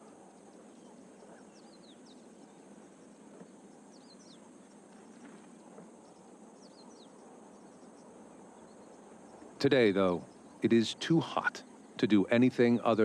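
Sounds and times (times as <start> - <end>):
bird chirping: 0.0 - 13.0
insect hiss: 0.0 - 13.0.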